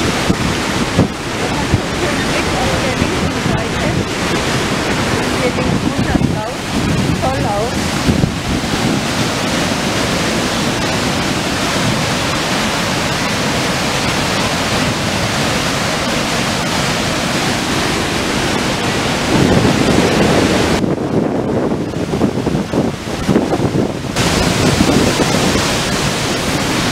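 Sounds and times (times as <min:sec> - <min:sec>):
waterfall rushing: 0:00.0 - 0:26.9
wind buffeting microphone: 0:00.0 - 0:26.9.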